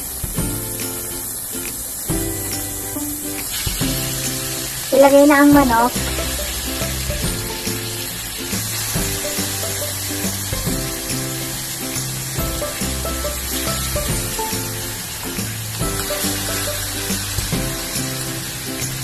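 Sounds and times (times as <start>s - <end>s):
background music with bass notes: 0.0s - 19.0s
chicken sizzling in a pan: 0.0s - 19.0s.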